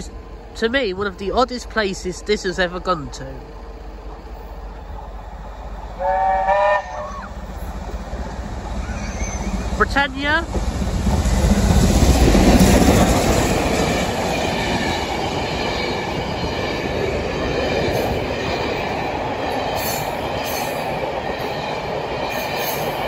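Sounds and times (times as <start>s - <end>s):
coach wheels rumbling on rails: 0.0s - 23.0s
steam locomotive passing: 0.0s - 23.0s.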